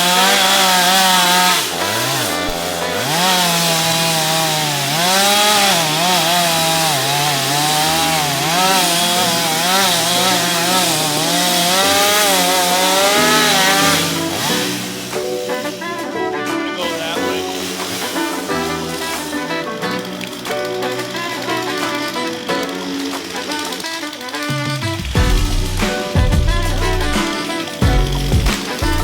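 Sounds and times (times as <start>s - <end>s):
chainsaw cutting a tree trunk: 0.0s - 29.0s.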